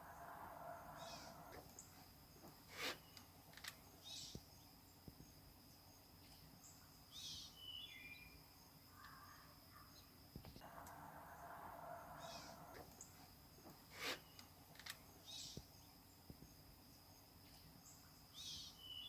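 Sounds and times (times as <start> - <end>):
faint bird chirps: 0.0 - 2.1, 2.7 - 19.0.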